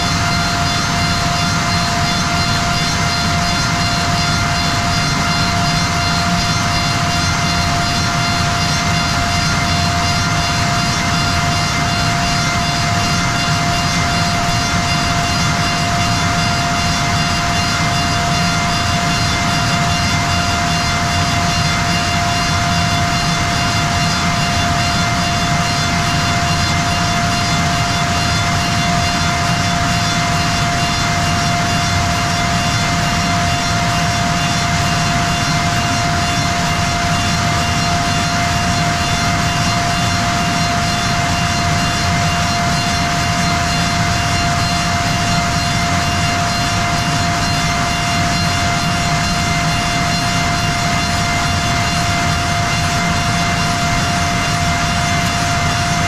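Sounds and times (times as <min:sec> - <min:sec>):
wood machining centre whine: 0:00.0 - 0:56.0.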